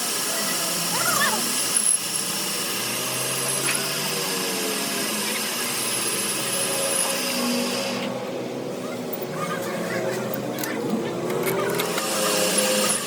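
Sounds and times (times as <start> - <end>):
workshop machinery whirring: 0.0 - 13.0.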